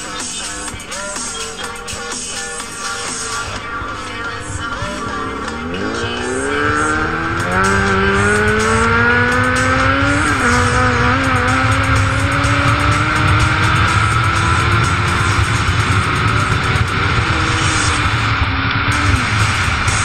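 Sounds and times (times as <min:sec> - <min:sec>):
engine accelerating hard: 0:00.0 - 0:20.0.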